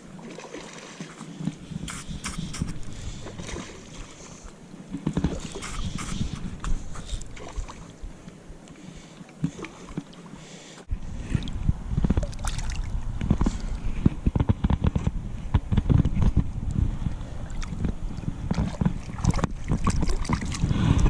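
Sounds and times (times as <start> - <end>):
water sloshing at river edge: 0.0 - 14.0, 16.9 - 21.0.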